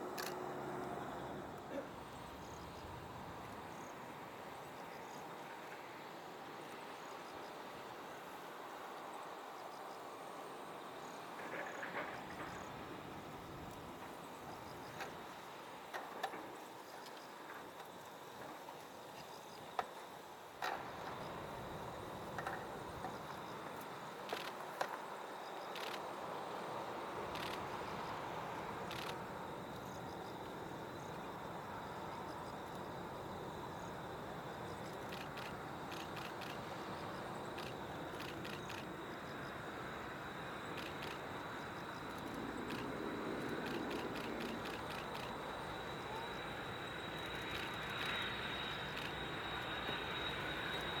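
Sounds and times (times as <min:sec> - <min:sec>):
distant turboprop aircraft: 0:00.0 - 0:51.0.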